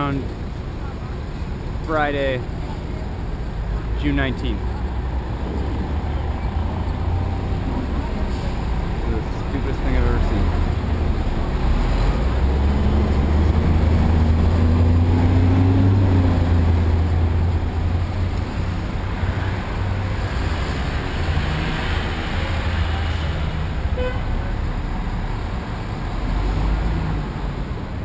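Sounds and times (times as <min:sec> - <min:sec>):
steady low traffic rumble: 0:00.0 - 0:28.0
vehicle engines running: 0:00.0 - 0:28.0.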